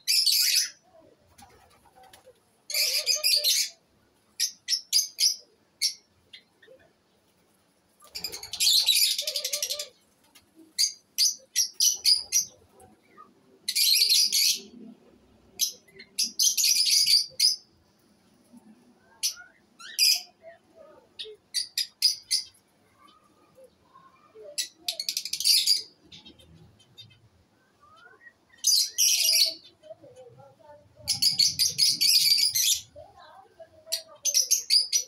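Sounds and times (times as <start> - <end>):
lovebirds chirping: 0.0 - 35.0.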